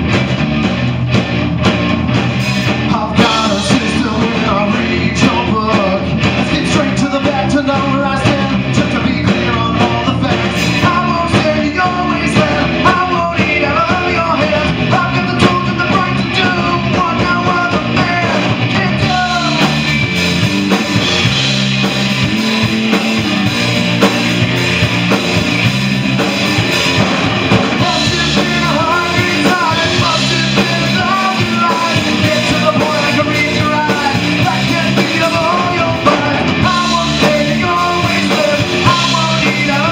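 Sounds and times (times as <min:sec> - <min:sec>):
distorted electric guitar: 0:00.0 - 0:39.9
drum kit: 0:00.0 - 0:39.9
electric bass: 0:00.0 - 0:39.9.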